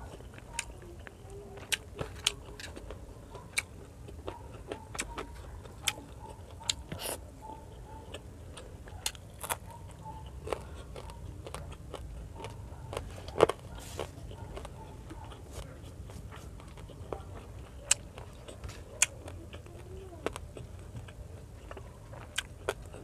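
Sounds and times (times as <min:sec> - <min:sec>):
chewing with mouth clicks: 0:00.0 - 0:23.0
low steady hum: 0:00.0 - 0:23.0.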